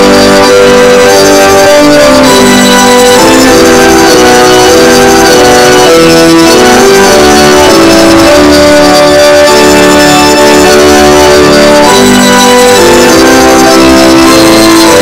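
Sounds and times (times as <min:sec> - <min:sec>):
hymn tune on instruments: 0:00.0 - 0:15.0.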